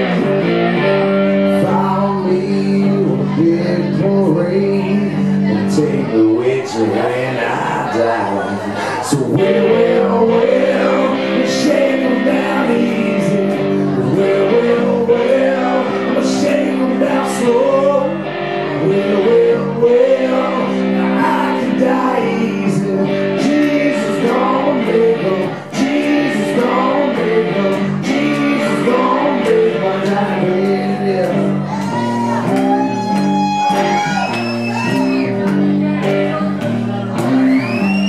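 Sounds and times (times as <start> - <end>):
electric blues guitar: 0.0 - 38.0.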